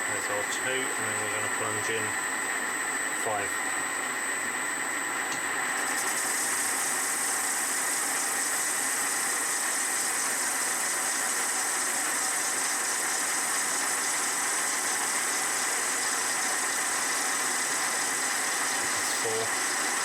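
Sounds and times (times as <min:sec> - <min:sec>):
metal lathe whining: 0:00.0 - 0:20.0.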